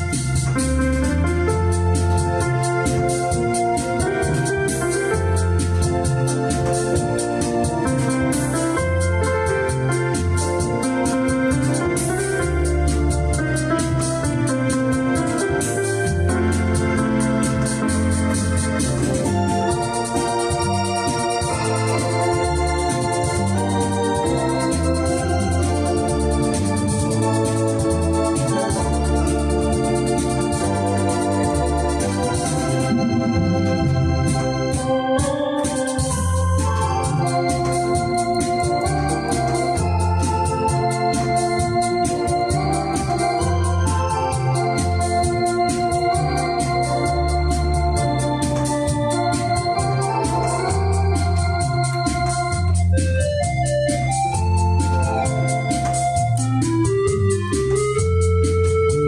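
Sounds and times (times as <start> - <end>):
electronic organ melody: 0.0 - 59.0
ticking rhythm accompaniment: 0.0 - 59.0.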